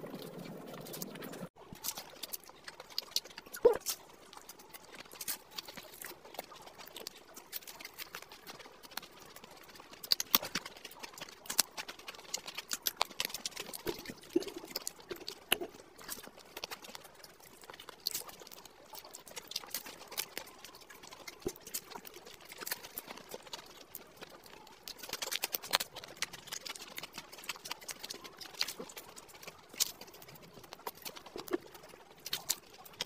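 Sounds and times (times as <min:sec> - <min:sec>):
chewing crisp fried food: 0:00.0 - 0:33.0.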